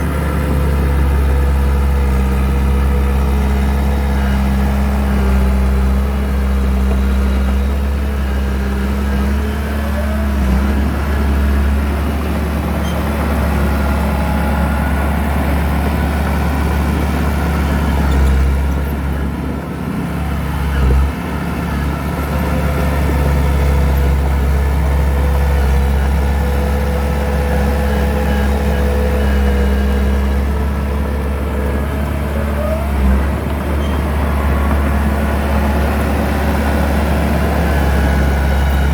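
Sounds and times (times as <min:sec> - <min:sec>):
diesel machinery engine drone: 0:00.0 - 0:38.9.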